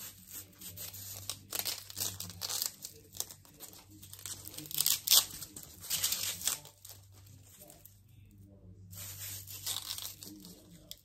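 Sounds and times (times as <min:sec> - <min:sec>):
hook-and-loop tape ripping: 0:00.0 - 0:07.9, 0:09.0 - 0:11.0.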